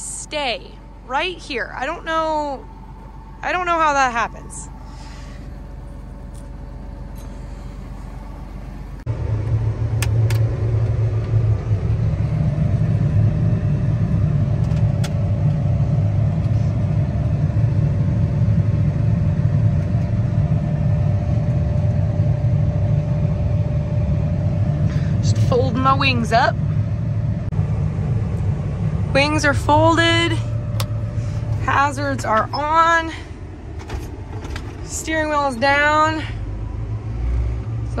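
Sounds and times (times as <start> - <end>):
hydraulic whine: 0.0 - 37.5
quiet steady rumble: 0.0 - 38.0
tractor diesel engine running: 0.0 - 38.0.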